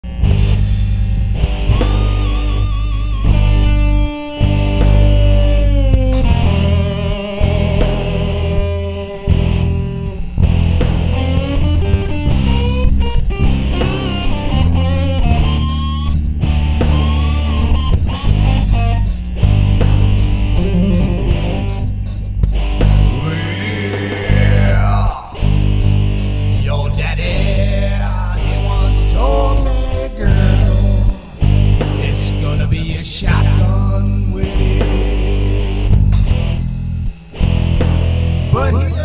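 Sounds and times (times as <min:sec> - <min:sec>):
blues-rock music: 0:00.0 - 0:39.0
electric guitar lead lines: 0:00.0 - 0:39.0.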